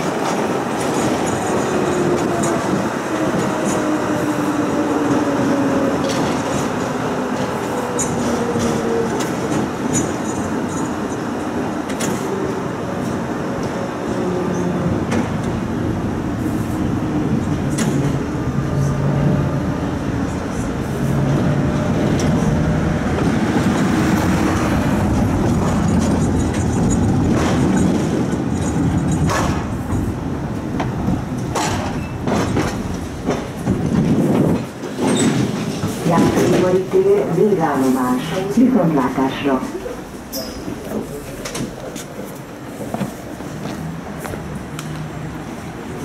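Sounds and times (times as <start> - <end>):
tram wheels rumbling: 0.0 - 46.0.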